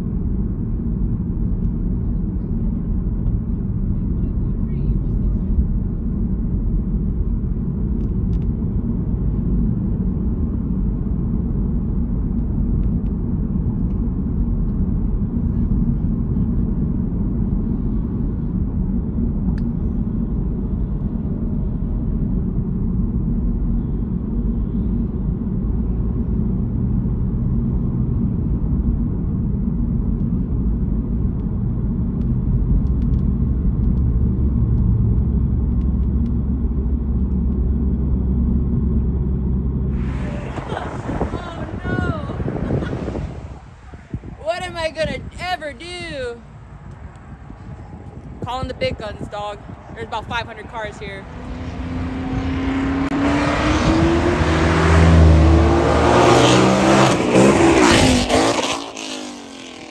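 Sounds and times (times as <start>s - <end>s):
car driving low rumble: 0.0s - 59.9s.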